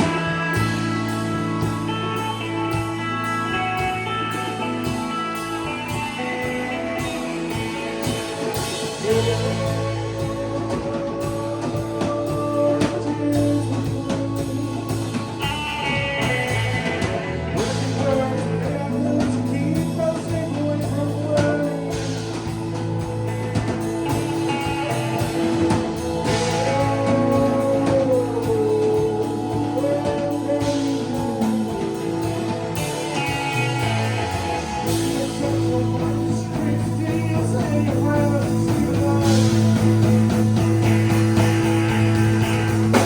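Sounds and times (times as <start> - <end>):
electric guitars: 0.0 - 43.0
rock band playing: 0.0 - 43.0.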